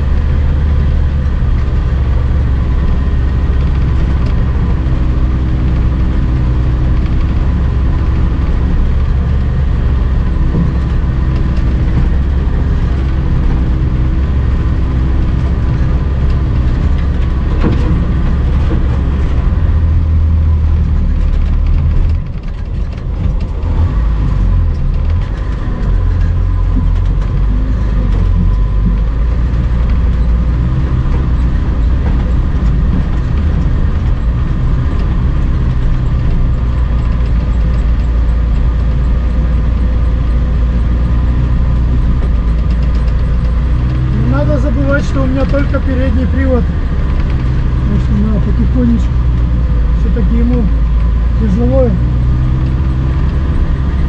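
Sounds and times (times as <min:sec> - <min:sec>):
vehicle engine under load: 0:00.0 - 0:54.0.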